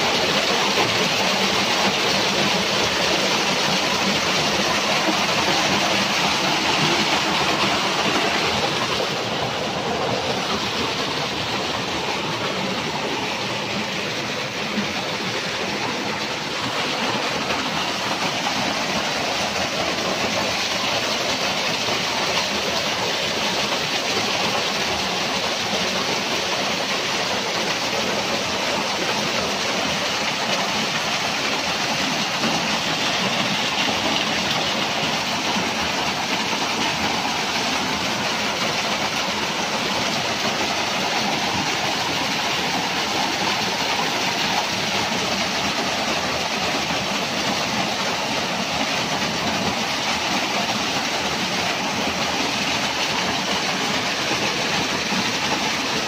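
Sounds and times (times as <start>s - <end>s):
waterfall splashing into pool: 0.0s - 56.0s.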